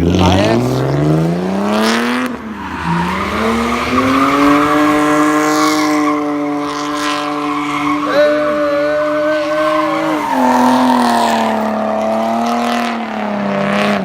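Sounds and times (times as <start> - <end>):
car engine revving hard: 0.0 - 14.0
tires squealing: 0.0 - 14.0.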